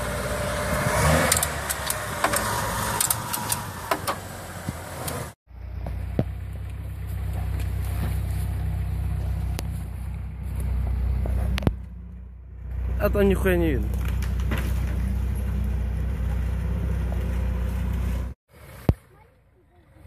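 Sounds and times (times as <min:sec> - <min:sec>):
car engine running: 0:00.0 - 0:18.8
low engine drone of vehicle driving: 0:00.0 - 0:20.0.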